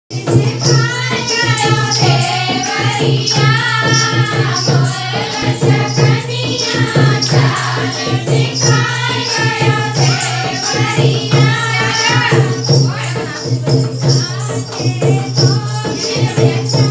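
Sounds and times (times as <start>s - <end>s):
folk song singing: 0.1s - 16.9s
percussion beat with jingles: 0.1s - 16.9s.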